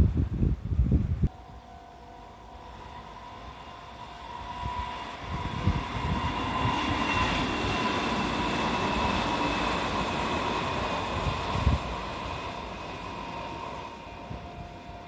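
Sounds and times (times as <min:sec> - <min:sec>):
wind buffeting microphone: 0:00.0 - 0:01.6, 0:04.2 - 0:15.0
faint steady whine: 0:00.0 - 0:15.0
electric train approaching: 0:01.2 - 0:15.0.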